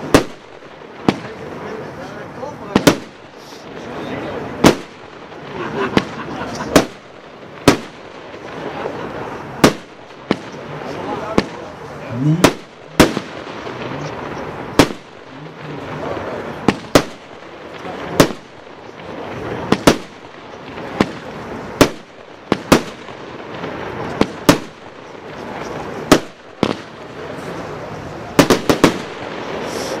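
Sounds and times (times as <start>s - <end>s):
fireworks bangs: 0.0s - 30.0s
rushing crackling fireworks noise: 0.0s - 30.0s.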